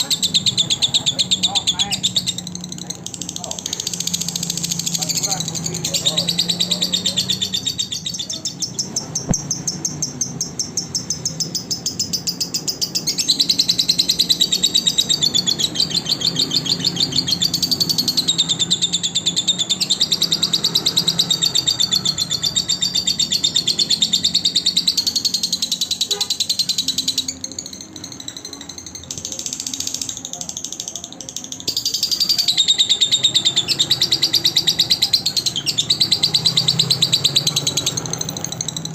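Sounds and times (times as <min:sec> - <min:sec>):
lovebird chattering: 0:00.0 - 0:38.9.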